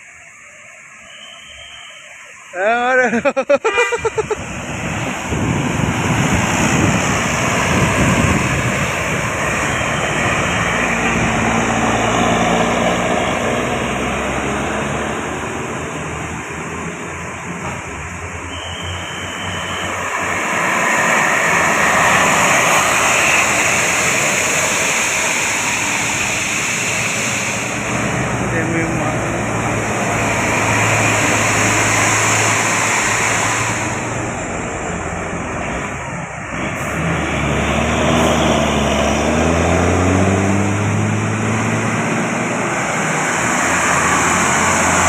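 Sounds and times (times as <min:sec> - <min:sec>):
large vehicles passing by: 0:00.0 - 0:45.0.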